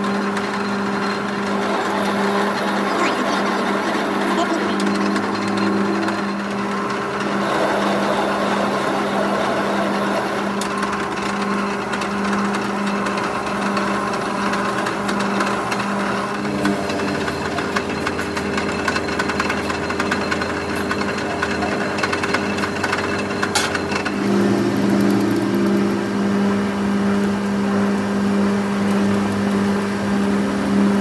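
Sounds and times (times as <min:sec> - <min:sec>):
machine motor humming: 0:00.2 - 0:17.8, 0:19.8 - 0:31.0.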